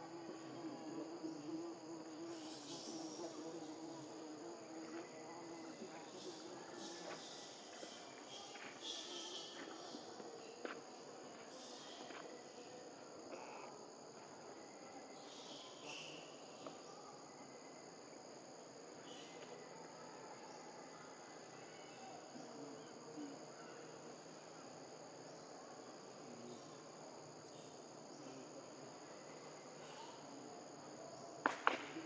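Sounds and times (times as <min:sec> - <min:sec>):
insect chorus buzzing: 0:00.0 - 0:32.0.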